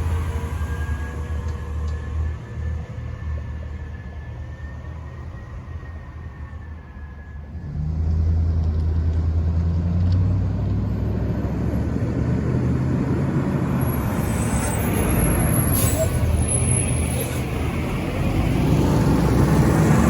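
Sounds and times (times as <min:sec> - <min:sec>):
garbage truck diesel engine: 0:00.0 - 0:20.0
road and tyre noise: 0:00.0 - 0:20.0.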